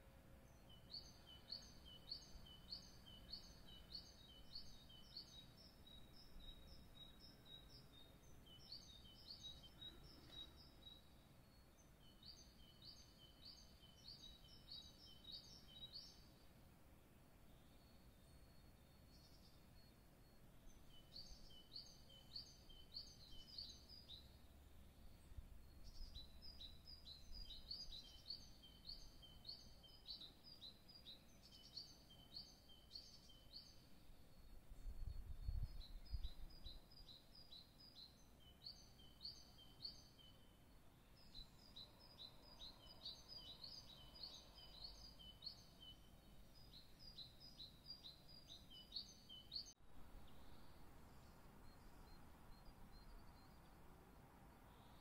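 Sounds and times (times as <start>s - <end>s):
small bird singing: 0.0s - 55.0s.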